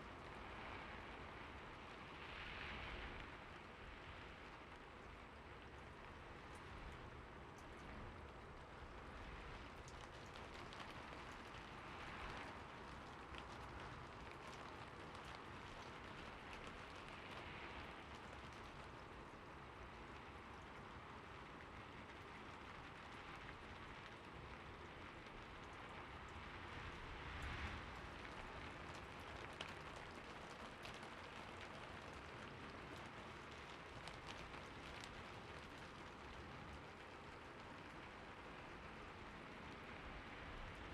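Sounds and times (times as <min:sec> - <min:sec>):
quiet steady rainfall: 0:00.0 - 0:40.9
raindrops hitting a surface: 0:00.0 - 0:40.9.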